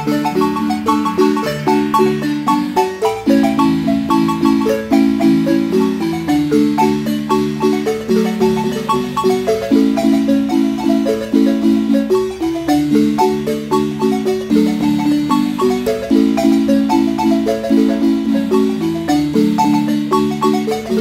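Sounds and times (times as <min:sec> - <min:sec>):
marimba played with mallets: 0:00.0 - 0:21.0.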